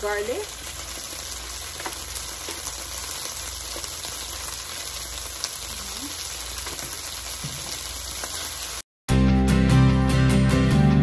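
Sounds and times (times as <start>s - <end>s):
green beans sizzling in a pan: 0.0s - 8.8s.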